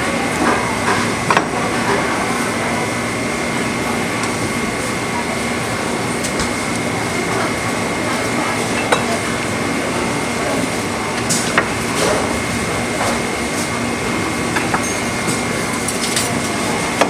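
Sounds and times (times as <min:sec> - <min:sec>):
steady noisy hum: 0:00.0 - 0:17.0.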